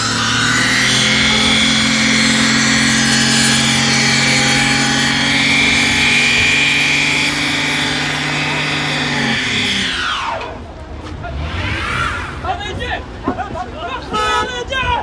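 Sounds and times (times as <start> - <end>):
car engine at high revs: 0.0 - 13.4
tyres screeching on asphalt: 0.0 - 15.0.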